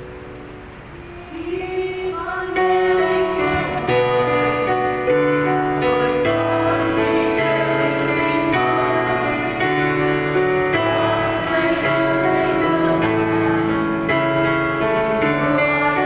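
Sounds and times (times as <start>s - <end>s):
hymn karaoke backing track: 0.0s - 16.0s.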